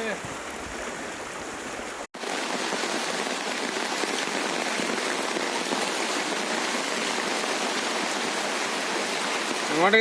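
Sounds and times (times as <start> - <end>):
rushing water hiss: 0.0 - 10.0.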